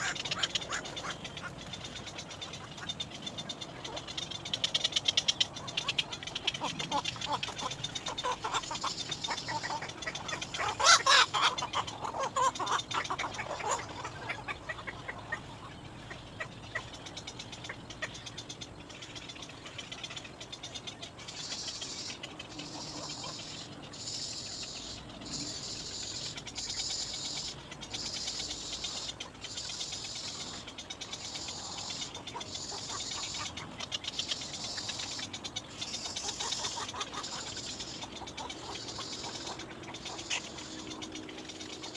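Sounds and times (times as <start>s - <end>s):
baby birds calling: 0.0s - 41.9s.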